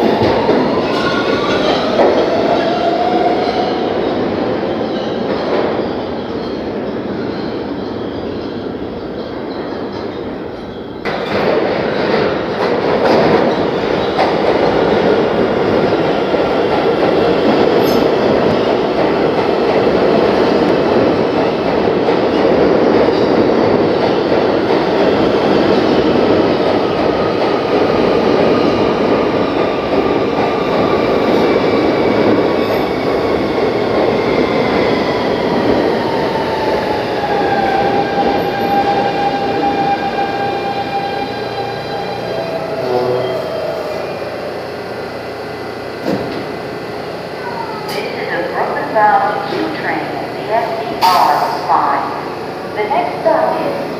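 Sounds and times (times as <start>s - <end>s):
subway train wheels rumbling: 0.0s - 53.9s.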